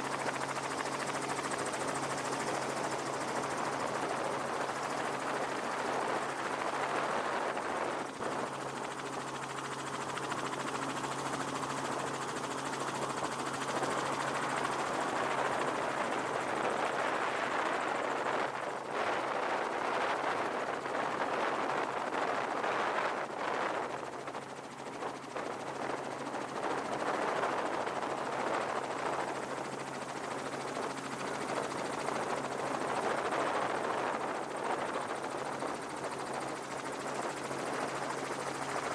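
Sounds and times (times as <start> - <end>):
helicopter rotor and turbine: 0.0 - 38.9.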